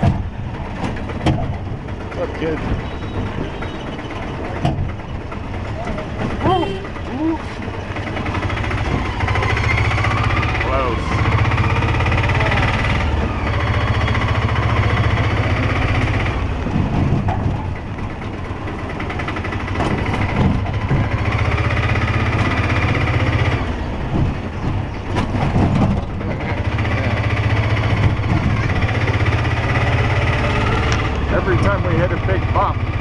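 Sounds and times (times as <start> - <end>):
auto-rickshaw engine droning: 0.0 - 33.0.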